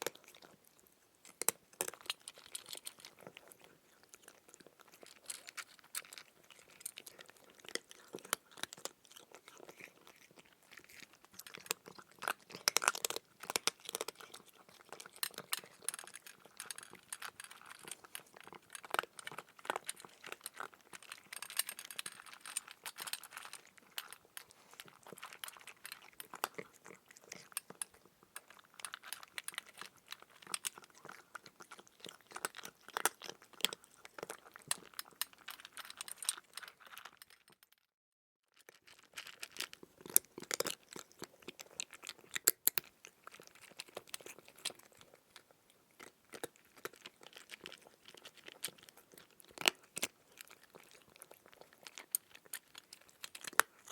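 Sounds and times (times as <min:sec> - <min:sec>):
cat crunching food: 0:00.0 - 0:37.8, 0:38.6 - 0:53.9.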